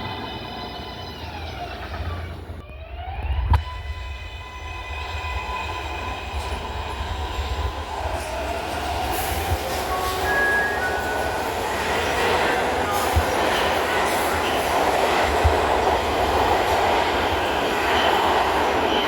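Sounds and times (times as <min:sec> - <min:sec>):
train motors whining: 0:00.0 - 0:18.8
low train rumble: 0:00.0 - 0:19.0.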